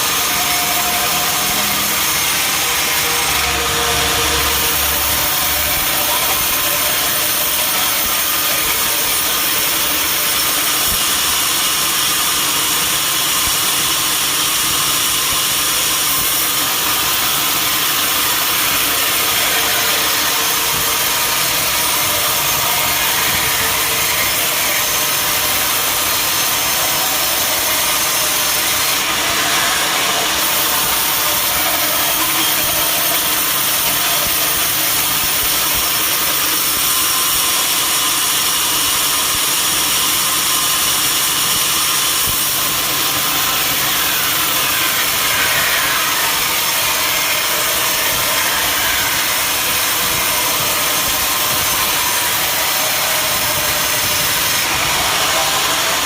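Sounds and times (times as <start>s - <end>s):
saw blade cutting log: 0.0s - 56.0s.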